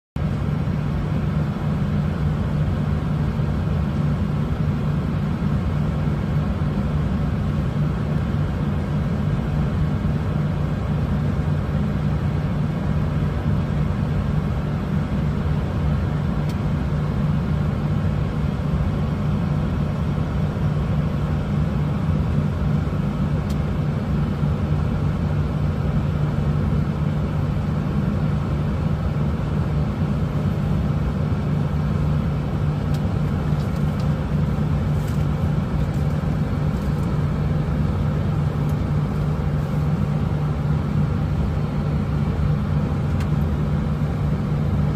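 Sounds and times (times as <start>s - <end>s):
airliner cabin drone: 0.2s - 44.9s.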